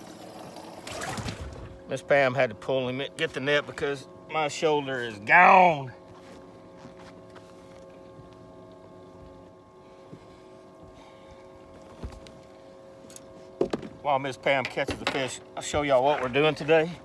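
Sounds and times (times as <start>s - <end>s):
electric boat motor humming: 0.0s - 17.0s.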